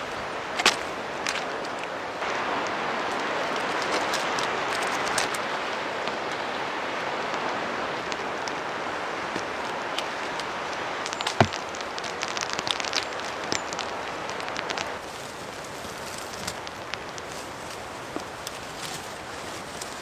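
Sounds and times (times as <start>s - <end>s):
rain hiss: 0.0s - 20.0s
sharp ticks of raindrops: 0.0s - 20.0s.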